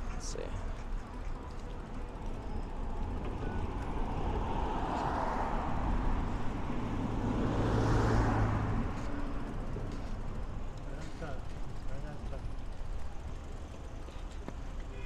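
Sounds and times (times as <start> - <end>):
vehicles passing close by: 0.0 - 15.0.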